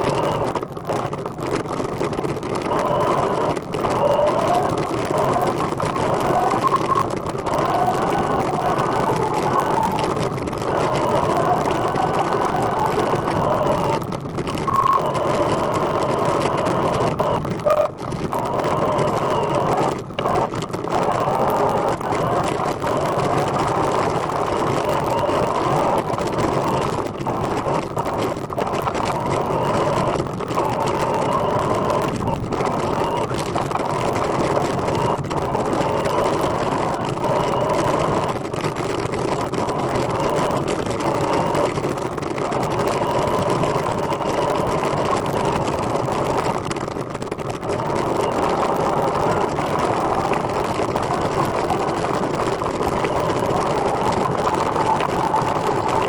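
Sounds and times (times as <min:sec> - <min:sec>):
faint steady whine: 0:00.0 - 0:56.0
tricycle tyre and drivetrain noise: 0:00.0 - 0:56.0.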